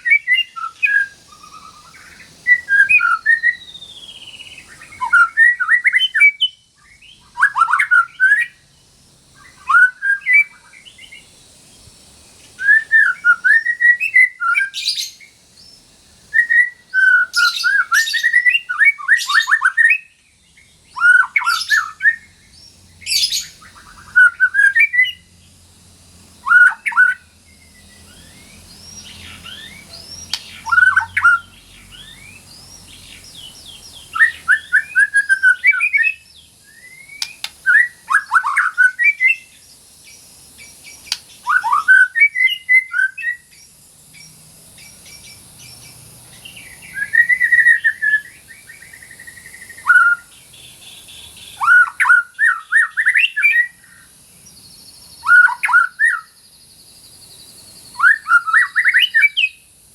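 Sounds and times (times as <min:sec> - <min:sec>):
bird singing whistles and chatters: 0:00.0 - 0:25.4, 0:26.4 - 0:56.4, 0:57.2 - 0:59.7.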